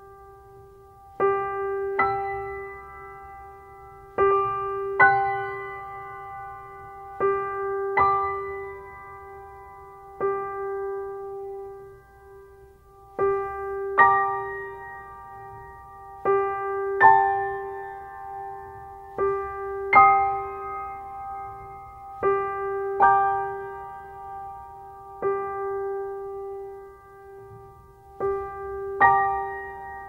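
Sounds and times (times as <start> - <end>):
slow piano music: 0.0 - 30.0.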